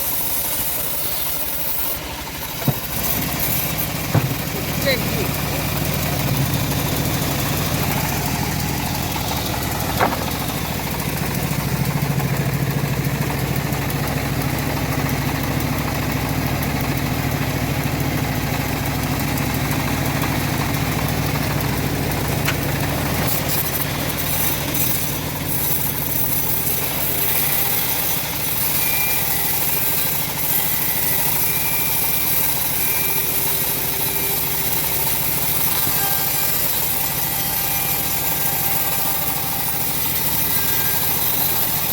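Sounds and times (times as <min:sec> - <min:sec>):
sawmill engine running: 0:00.0 - 0:41.9.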